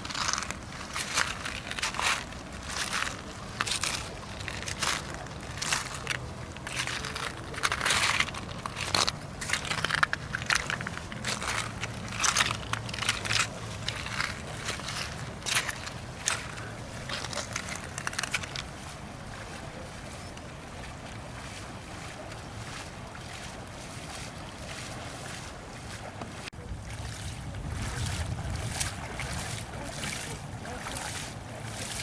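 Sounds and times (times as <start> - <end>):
river water rushing: 0.0 - 32.0
wind buffeting microphone: 0.0 - 32.0.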